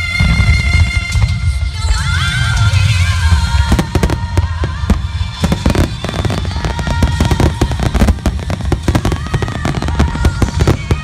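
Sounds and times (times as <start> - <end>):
fireworks cracking and banging: 0.0 - 11.0
music with held notes: 0.0 - 11.0.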